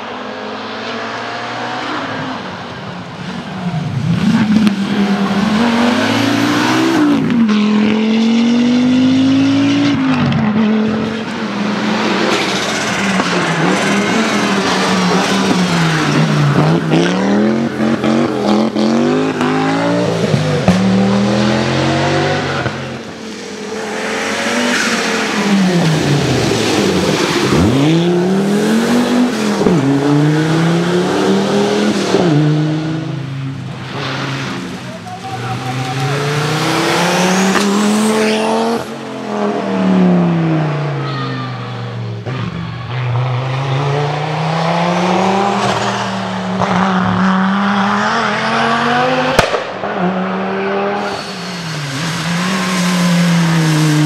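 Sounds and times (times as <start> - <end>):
rally cars passing at speed: 0.0 - 54.0.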